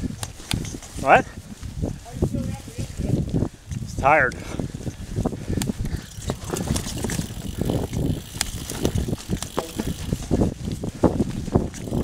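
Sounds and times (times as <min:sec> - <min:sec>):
bike rattling: 0:00.0 - 0:12.0
bike tyres rumbling on dirt: 0:00.0 - 0:12.0.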